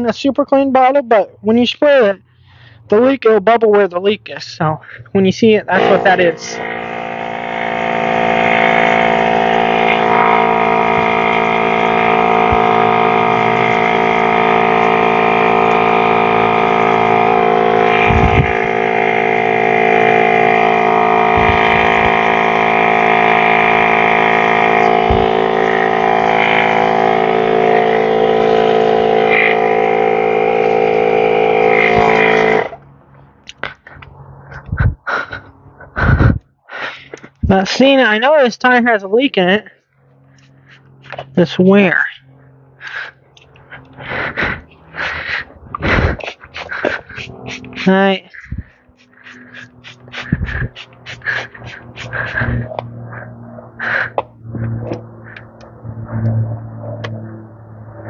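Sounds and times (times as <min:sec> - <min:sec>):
air compressor motor hum: 0:05.8 - 0:37.5, 0:40.1 - 0:41.4, 0:42.2 - 0:58.0.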